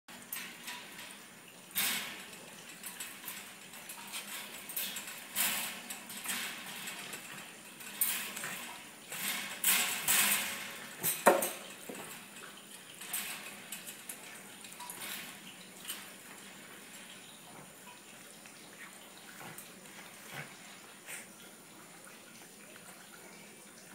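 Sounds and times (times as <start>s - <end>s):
wire pet cage rattling: 0.2s - 23.9s.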